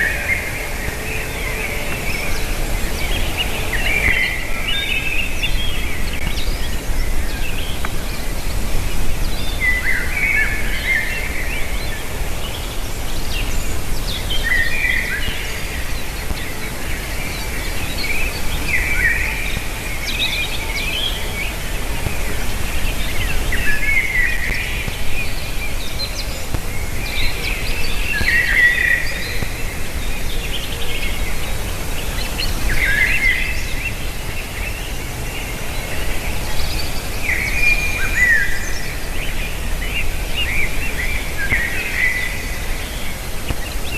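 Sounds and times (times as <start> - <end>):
wind noise: 0.0 - 43.9.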